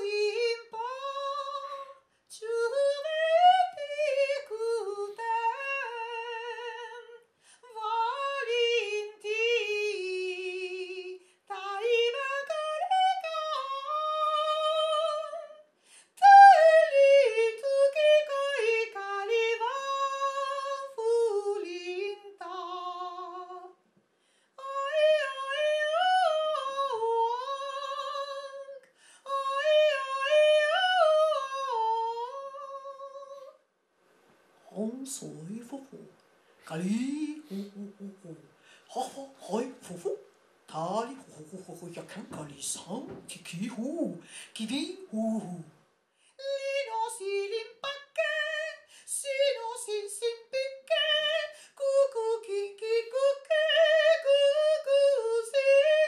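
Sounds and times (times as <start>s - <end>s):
woman singing unaccompanied: 0.0s - 23.8s, 24.6s - 33.6s, 34.7s - 45.7s, 46.4s - 56.0s.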